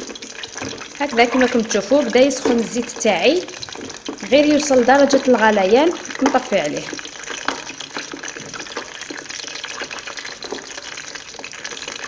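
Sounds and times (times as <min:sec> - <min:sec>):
oil and garlic sizzling in a pot: 0:00.0 - 0:12.0.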